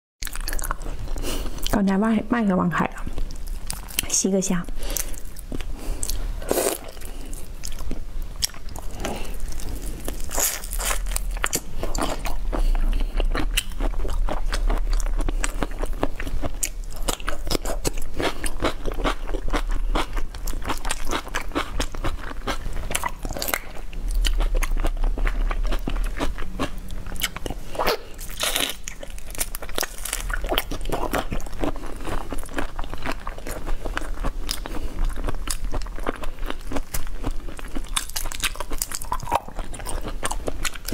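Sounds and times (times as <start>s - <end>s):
person chewing: 0.2s - 1.8s, 3.1s - 4.1s, 4.7s - 40.9s.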